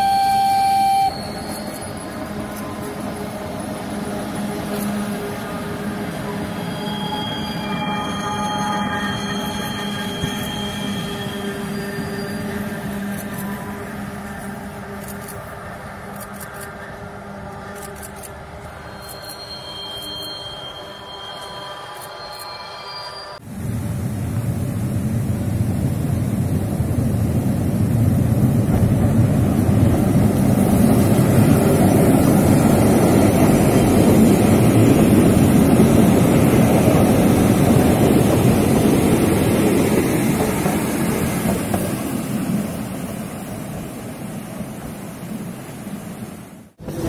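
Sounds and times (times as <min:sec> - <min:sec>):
train rumbling over steel bridge: 0:00.0 - 0:47.0.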